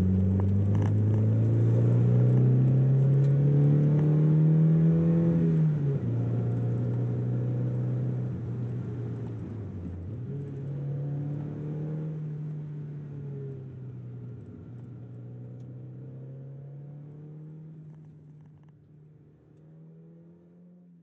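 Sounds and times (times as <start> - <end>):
car engine running from inside cabin: 0.0 - 19.2.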